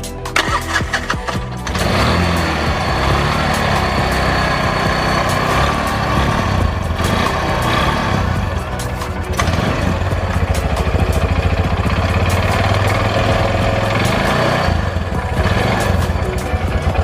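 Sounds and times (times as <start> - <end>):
small petrol engine idling: 0.4 - 17.0.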